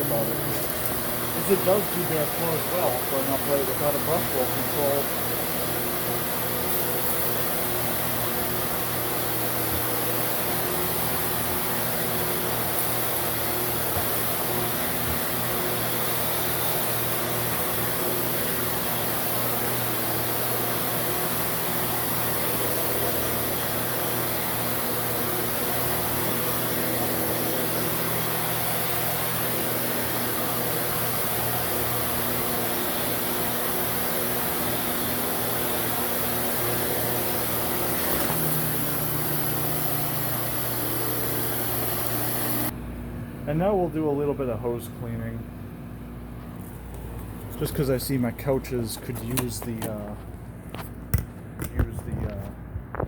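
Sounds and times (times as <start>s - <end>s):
vacuum cleaner running: 0.0s - 42.8s, 45.8s - 51.0s.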